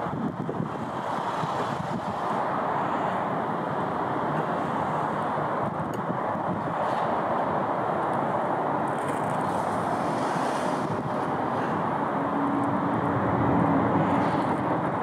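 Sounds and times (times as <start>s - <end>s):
distant piston engines rumbling: 0.0s - 15.0s.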